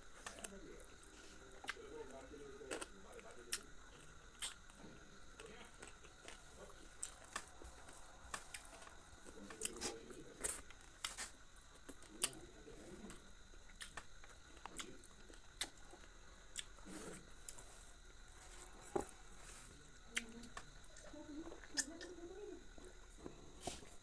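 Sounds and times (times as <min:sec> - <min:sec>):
person chewing: 0:00.2 - 0:01.8, 0:02.6 - 0:22.0.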